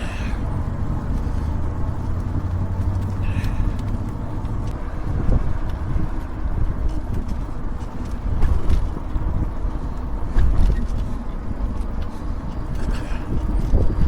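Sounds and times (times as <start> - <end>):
bike tyres humming on pavement: 0.0 - 14.0
wind buffeting microphone: 0.0 - 14.0.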